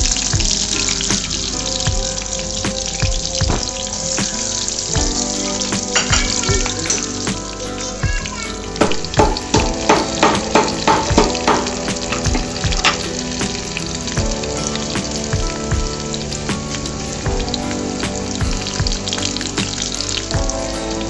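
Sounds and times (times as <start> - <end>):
oil crackling and popping: 0.0 - 21.0
shallots sizzling in hot oil: 0.0 - 21.0.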